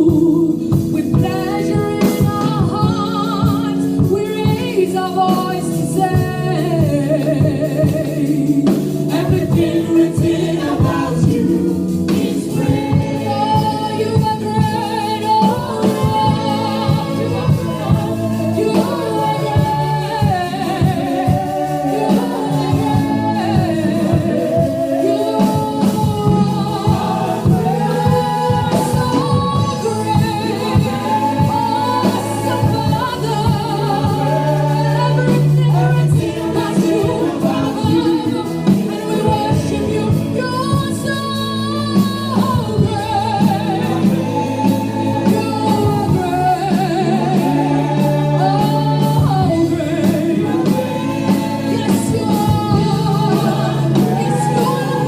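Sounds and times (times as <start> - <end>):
choir singing gospel with band: 0.0 - 55.0.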